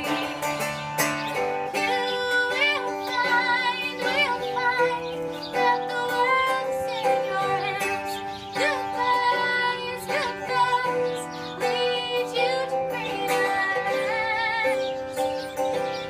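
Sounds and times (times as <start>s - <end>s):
woman singing high: 0.0s - 0.8s, 1.7s - 15.1s
plucked guitar: 0.0s - 16.0s.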